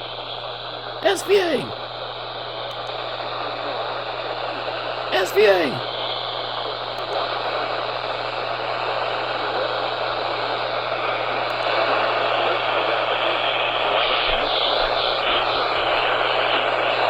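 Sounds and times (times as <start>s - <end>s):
radio static hiss: 0.0s - 1.9s, 2.9s - 10.7s, 11.6s - 17.0s.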